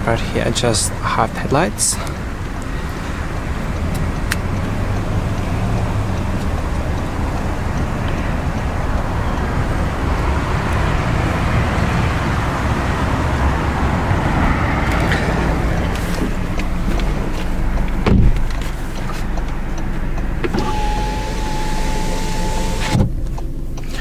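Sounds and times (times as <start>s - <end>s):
steady low rumbling: 0.0s - 20.6s.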